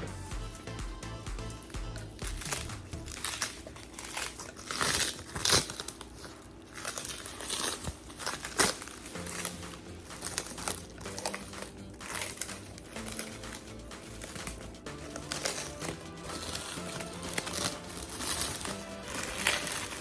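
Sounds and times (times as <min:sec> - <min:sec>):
background music: 0:00.0 - 0:04.3, 0:07.0 - 0:20.0
packaging crinkling: 0:02.2 - 0:20.0.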